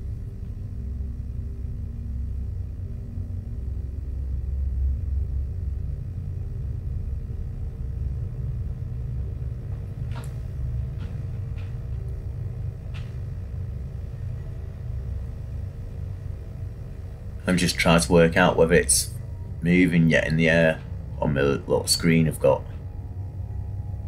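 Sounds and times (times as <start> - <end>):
faint steady hum: 0.0 - 24.0
steady low rumble: 0.0 - 24.0.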